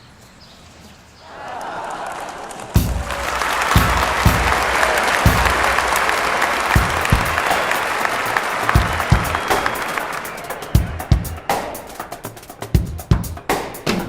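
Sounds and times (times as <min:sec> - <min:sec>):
crowd applauding: 0:01.3 - 0:12.8.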